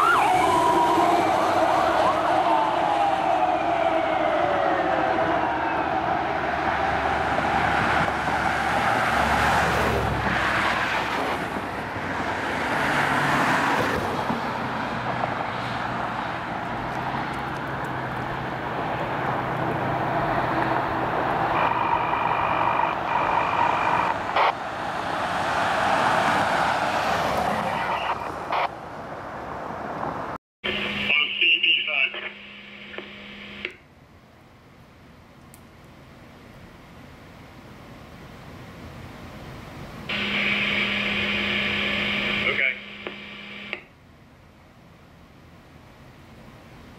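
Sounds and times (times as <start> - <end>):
road traffic rushing past: 0.0 - 33.9, 38.3 - 46.9.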